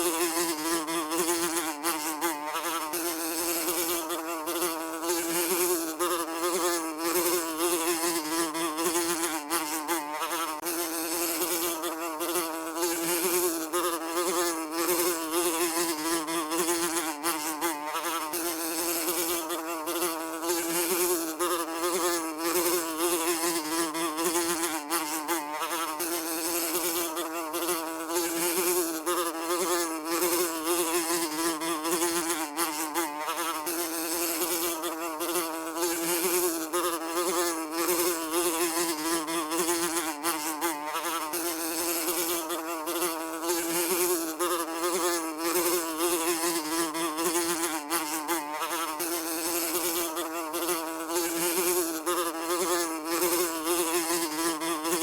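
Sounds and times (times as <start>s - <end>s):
housefly buzzing: 0.0s - 55.0s.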